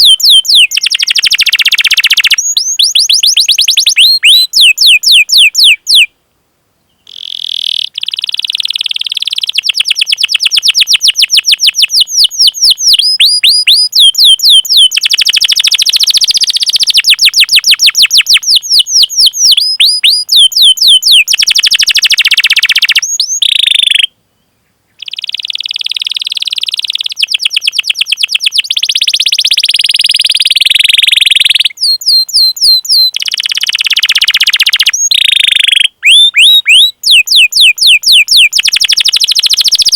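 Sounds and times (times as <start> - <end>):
canary singing: 0.0 - 6.1, 6.9 - 24.1, 25.0 - 39.9.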